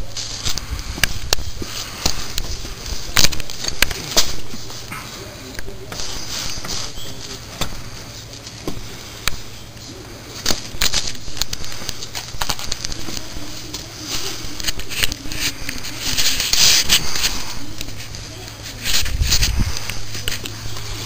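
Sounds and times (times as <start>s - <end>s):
clothing rustling: 0.0s - 21.0s.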